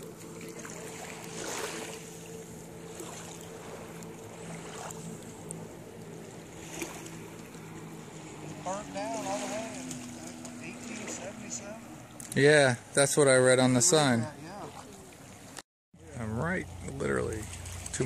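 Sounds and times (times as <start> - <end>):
engine drone: 0.0 - 14.2, 14.8 - 18.0
wind and surf-like noise: 0.0 - 18.0.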